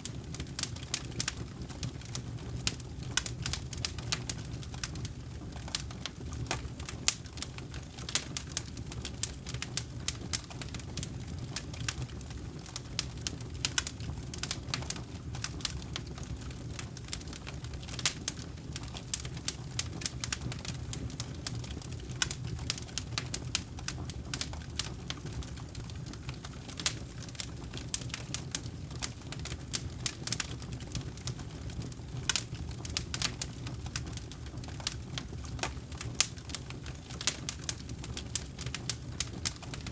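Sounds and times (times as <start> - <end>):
burning wood crackling and popping: 0.0 - 39.9
campfire flames rushing: 0.0 - 39.9.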